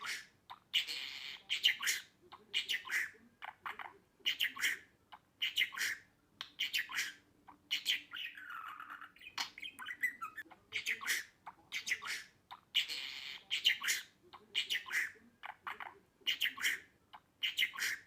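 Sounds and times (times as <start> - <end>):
budgerigar chattering and warbling: 0.0 - 18.0.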